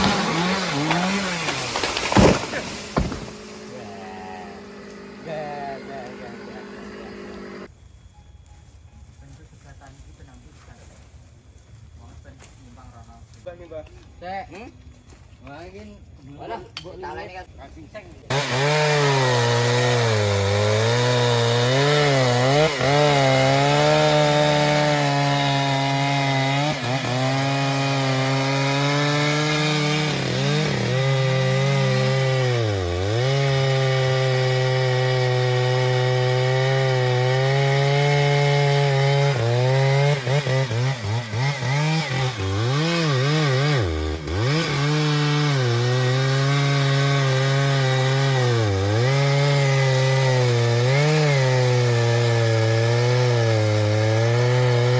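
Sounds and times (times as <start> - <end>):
chainsaw cutting wood: 0.0 - 7.7, 18.3 - 54.9.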